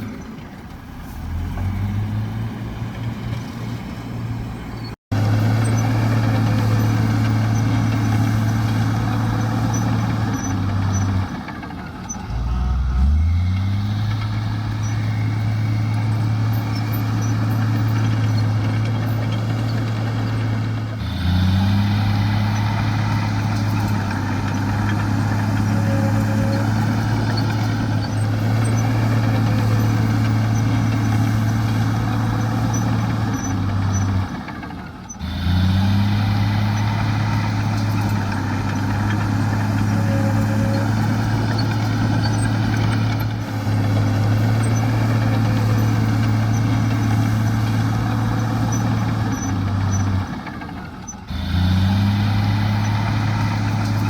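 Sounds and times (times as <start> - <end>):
heavy diesel machinery engine running: 0.0 - 54.0.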